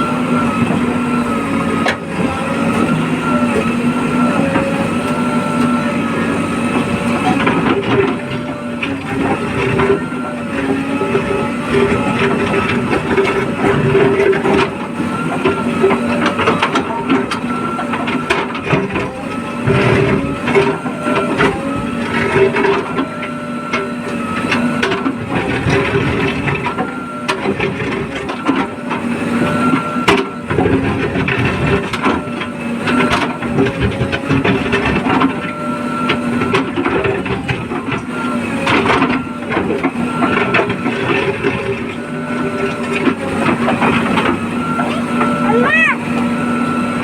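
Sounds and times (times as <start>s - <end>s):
diesel backhoe engine and hydraulics: 0.0s - 47.0s.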